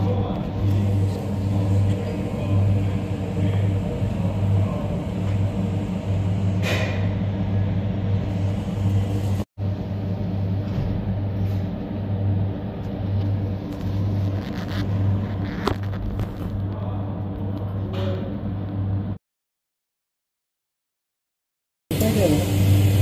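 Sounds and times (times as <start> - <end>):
low machine hum throbbing: 0.0 - 19.2.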